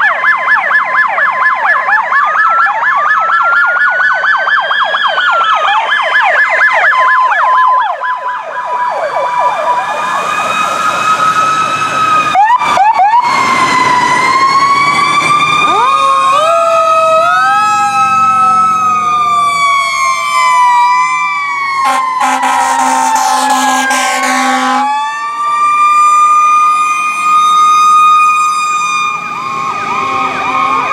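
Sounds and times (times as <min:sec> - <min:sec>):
emergency vehicle sirens: 0:00.0 - 0:30.9.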